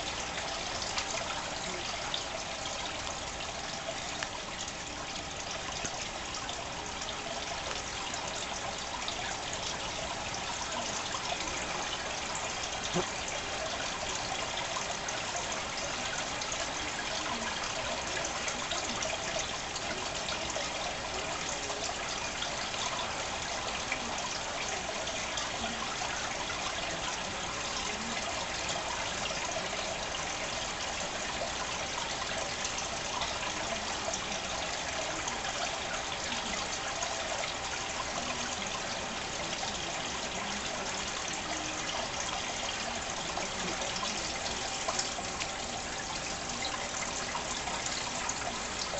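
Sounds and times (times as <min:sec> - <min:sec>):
aquarium water trickling and splashing: 0:00.0 - 0:48.9.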